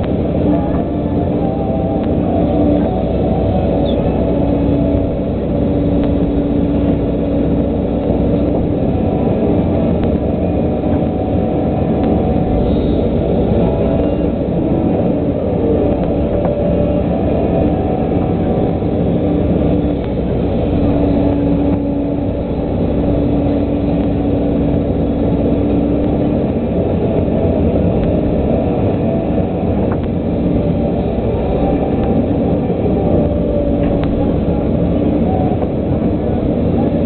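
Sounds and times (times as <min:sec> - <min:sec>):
excavator diesel engine running: 0:00.0 - 0:37.0
steady tone: 0:00.0 - 0:37.0.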